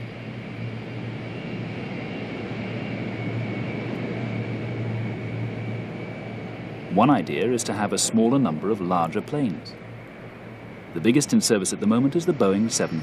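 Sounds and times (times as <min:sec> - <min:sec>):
aircraft engines rumbling: 0:00.0 - 0:13.0
high engine whine: 0:00.0 - 0:13.0.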